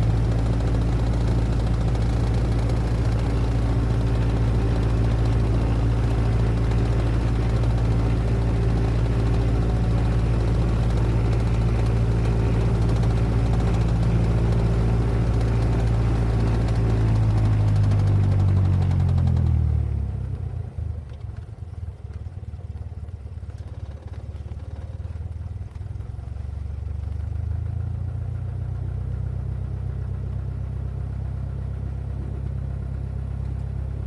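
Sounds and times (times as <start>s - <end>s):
propeller plane engine droning: 0.0s - 26.4s, 30.3s - 34.0s.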